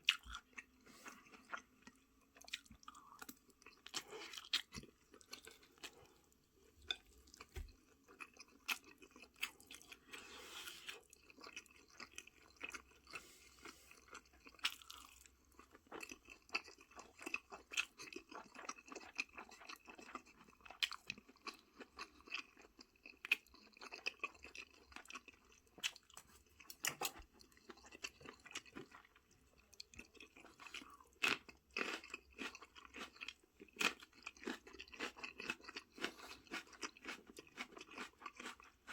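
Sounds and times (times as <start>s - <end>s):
person chewing and crunching: 0.0s - 38.9s.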